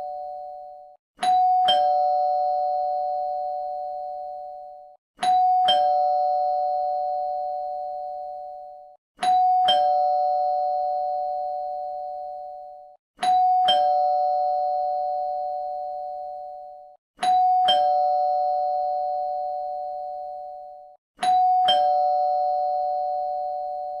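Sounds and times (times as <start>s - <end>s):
two-tone doorbell chime: 0.0s - 24.0s.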